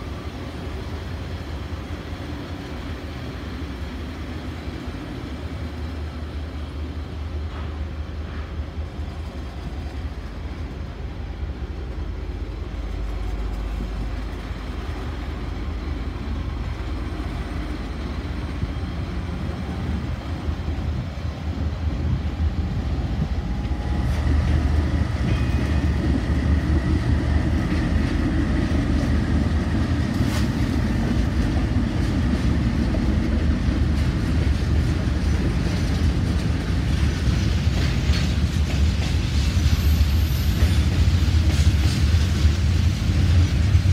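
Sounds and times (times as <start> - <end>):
diesel train rumbling past: 0.0 - 43.9.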